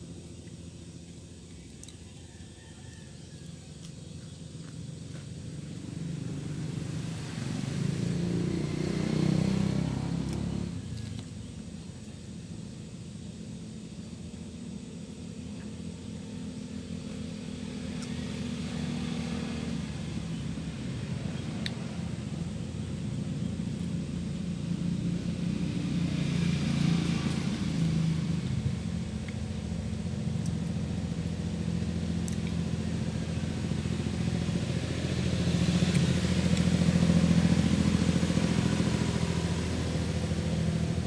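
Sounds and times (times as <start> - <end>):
steady engine hum: 0.0 - 41.0
vehicle engine passing by: 0.0 - 41.0.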